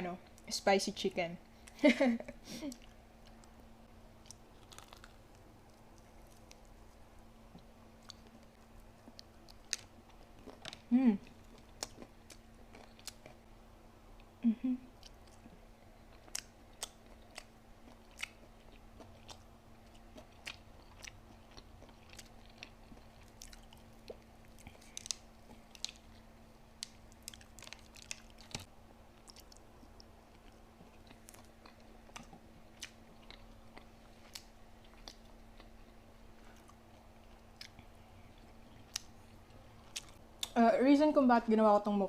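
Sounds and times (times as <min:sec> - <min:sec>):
faint steady hum: 0:00.0 - 0:42.0
person chewing food: 0:02.6 - 0:13.4, 0:14.9 - 0:40.6.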